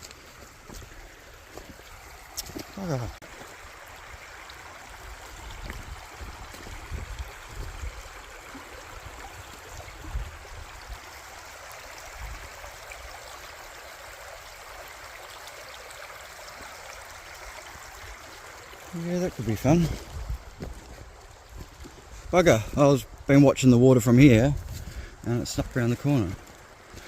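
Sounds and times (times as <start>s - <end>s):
creek water running over rocks: 0.0s - 27.0s.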